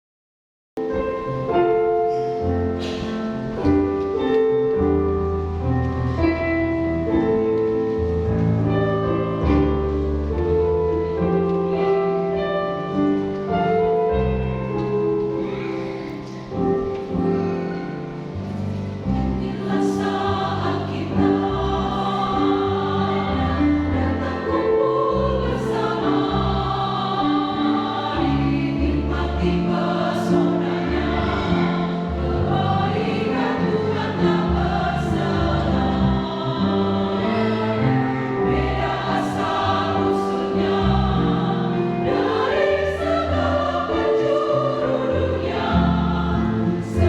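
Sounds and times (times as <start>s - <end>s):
choir singing a hymn: 0.9s - 47.0s.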